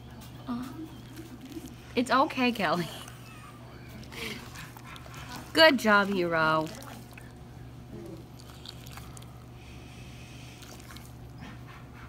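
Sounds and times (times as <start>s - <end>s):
steady low hum: 0.0s - 12.0s
wet squishes: 1.0s - 11.4s.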